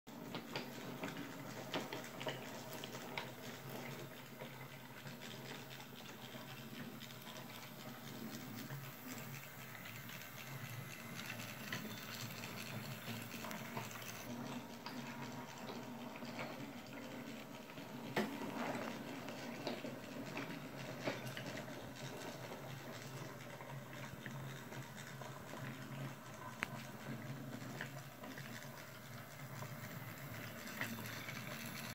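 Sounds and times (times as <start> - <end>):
toy train motor humming: 0.3 - 31.9.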